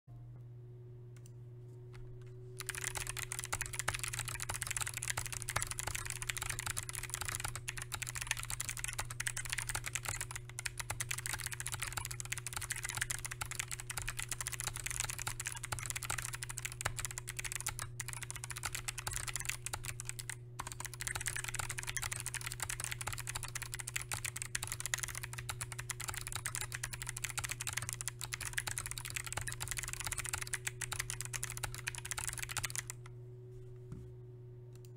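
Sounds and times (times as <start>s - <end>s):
steady low hum: 0.1s - 34.9s
fast typing on clicky keyboard: 2.6s - 33.0s.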